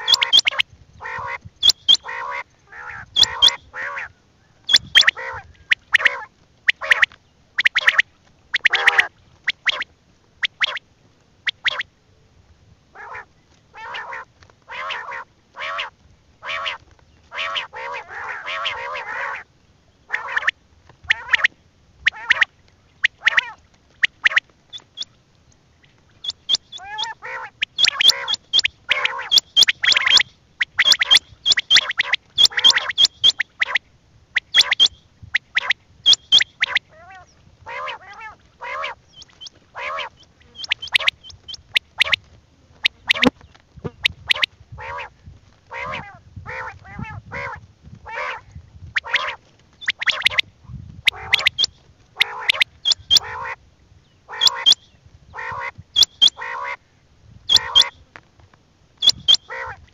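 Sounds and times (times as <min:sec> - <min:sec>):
quail calling: 0:00.0 - 0:10.8, 0:11.4 - 0:11.9, 0:13.0 - 0:19.5, 0:20.1 - 0:25.2, 0:25.8 - 0:50.5, 0:51.1 - 0:53.6, 0:54.2 - 0:56.8, 0:57.5 - 0:58.1, 0:59.0 - 0:59.9.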